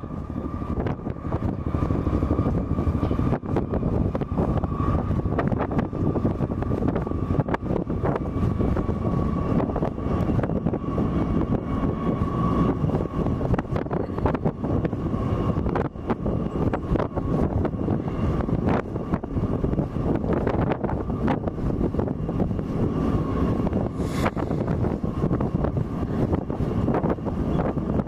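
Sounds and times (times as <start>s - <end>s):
deep continuous rumble: 0.0s - 28.0s
jet engines whining: 0.0s - 28.0s
wind buffeting microphone: 0.0s - 28.0s.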